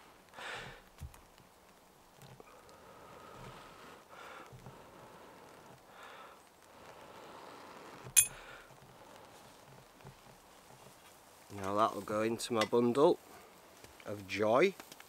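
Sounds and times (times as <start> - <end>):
soft breaths blowing: 0.0 - 1.0, 1.6 - 12.4, 13.0 - 14.2.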